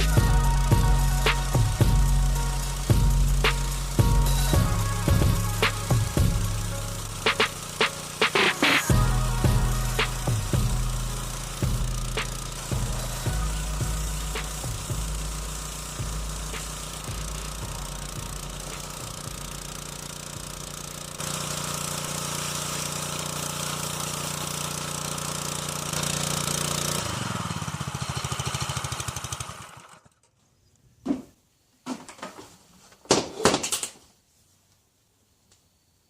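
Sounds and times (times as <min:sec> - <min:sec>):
small gas engine running: 0:00.0 - 0:30.3.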